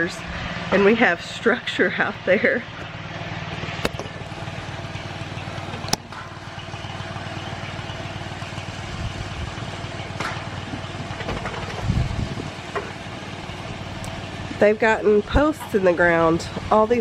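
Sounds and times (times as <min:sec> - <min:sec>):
engine running at low speed: 0:00.0 - 0:17.0.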